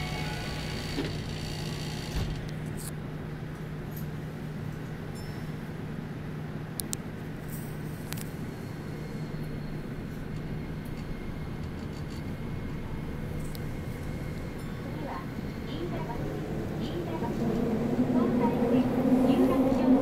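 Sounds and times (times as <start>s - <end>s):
subway train low hum: 0.0s - 20.0s
train rumble: 0.0s - 20.0s.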